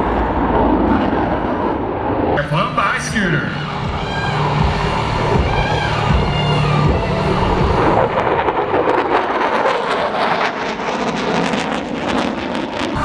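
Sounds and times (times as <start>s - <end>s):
jet engine roar passing: 0.0s - 13.0s.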